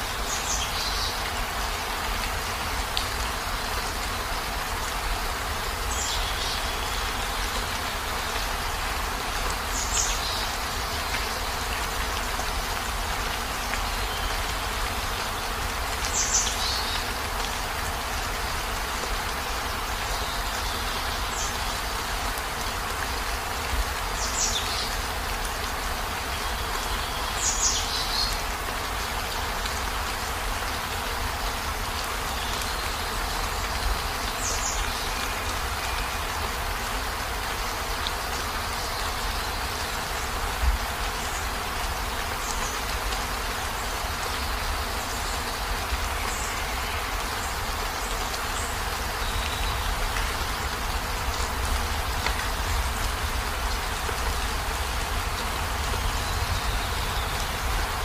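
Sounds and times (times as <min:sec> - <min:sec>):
heavy rain on a vehicle roof: 0:00.0 - 0:58.0.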